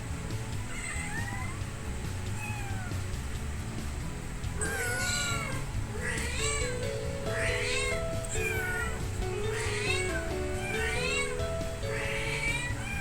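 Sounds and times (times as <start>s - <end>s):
background music with simple melody: 0.0s - 13.0s
kitten meowing: 0.5s - 3.1s, 4.6s - 13.0s.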